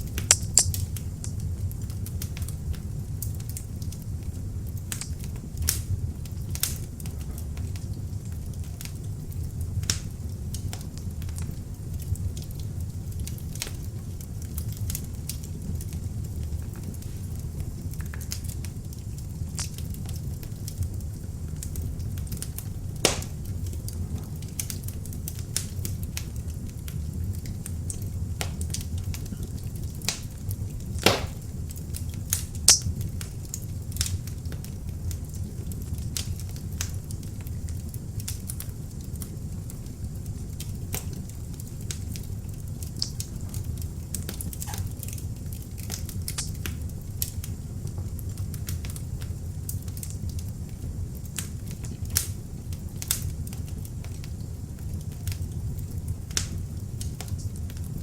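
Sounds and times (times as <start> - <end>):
fire burning in fireplace: 0.0 - 58.0
fire crackling and popping: 0.0 - 58.0.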